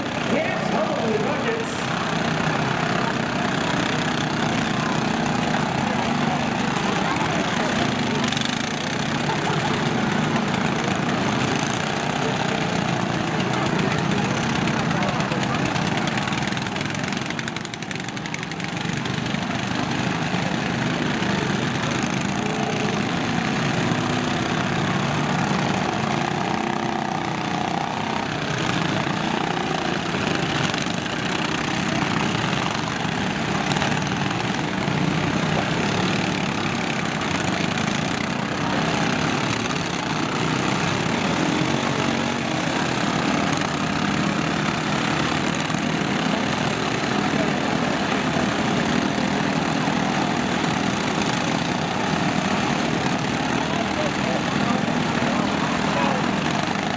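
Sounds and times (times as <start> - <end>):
lawn tractor engines droning: 0.0 - 56.9.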